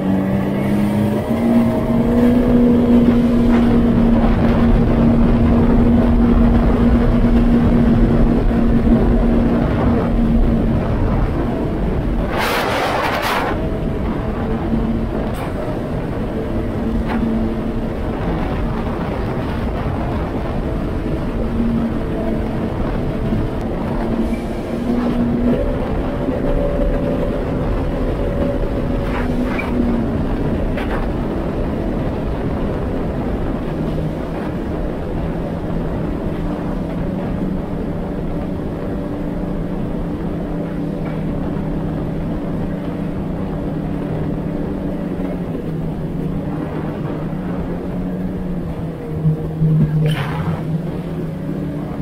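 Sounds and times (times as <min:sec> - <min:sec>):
water rushing against hull: 0:00.0 - 0:52.0
watercraft engine running: 0:00.0 - 0:52.0.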